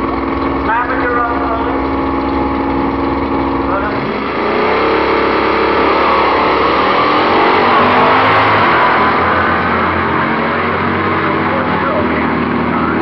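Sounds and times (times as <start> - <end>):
drag racing cars accelerating hard: 0.0 - 13.0.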